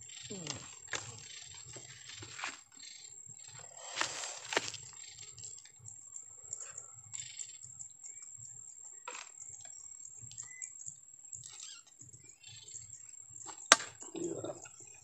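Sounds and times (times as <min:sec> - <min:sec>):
soft bird chirp: 0:00.0 - 0:15.0.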